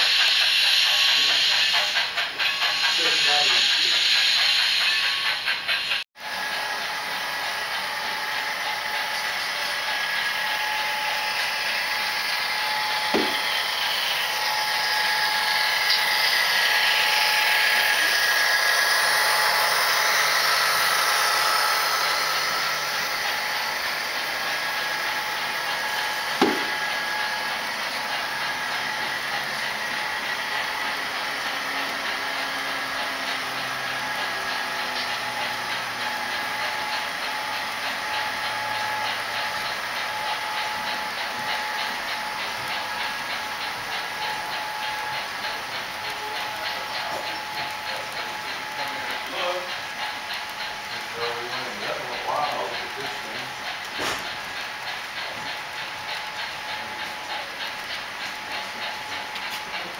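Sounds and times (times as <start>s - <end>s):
model train whirring: 0.0s - 59.9s.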